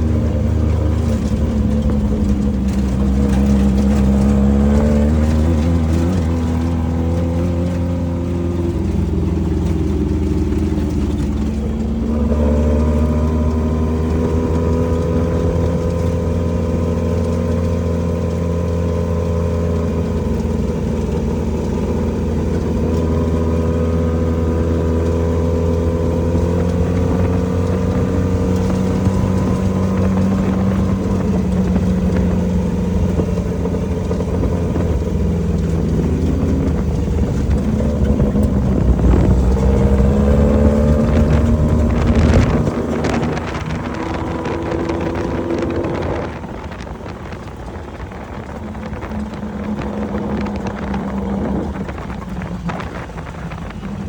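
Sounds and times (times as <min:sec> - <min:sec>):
race vehicle engine running hard: 0:00.0 - 0:54.0.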